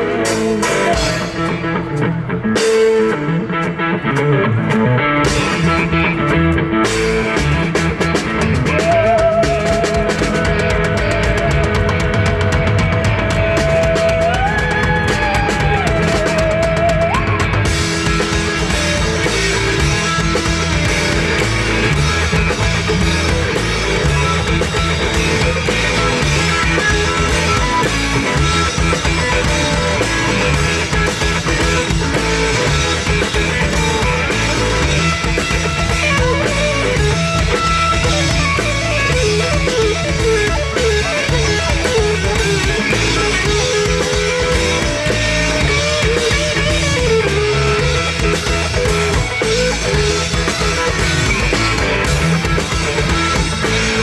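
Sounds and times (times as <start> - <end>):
bass guitar: 0.0 - 54.0
distorted electric guitars: 0.0 - 54.0
drum kit: 0.0 - 54.0.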